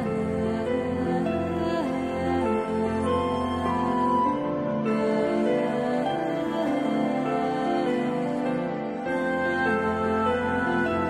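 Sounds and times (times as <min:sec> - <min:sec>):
slow sad music: 0:00.0 - 0:11.0.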